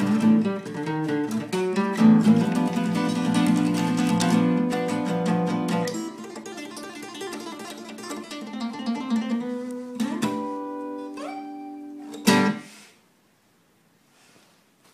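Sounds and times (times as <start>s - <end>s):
acoustic guitar playing: 0.0s - 12.9s.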